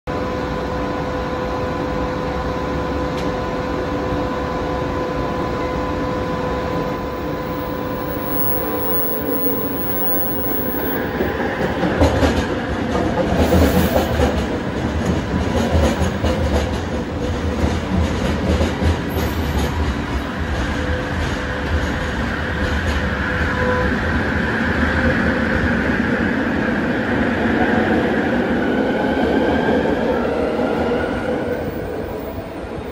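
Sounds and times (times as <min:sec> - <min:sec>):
train rumble and rattle: 0:00.1 - 0:32.9.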